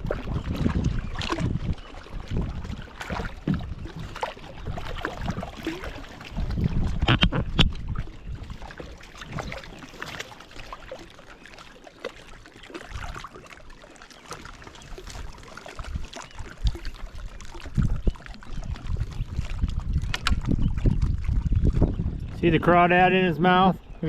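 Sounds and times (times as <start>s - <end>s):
wind rumble on microphone: 0.0s - 10.1s, 14.8s - 24.0s
water trickling and splashing: 0.0s - 24.0s.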